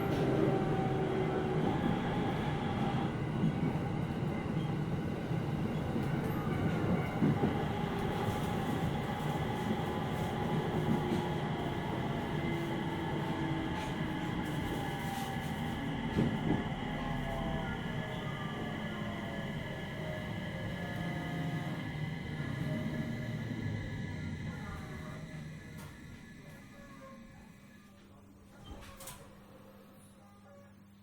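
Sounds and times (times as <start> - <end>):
train wheels rumbling on rail: 0.0 - 26.4.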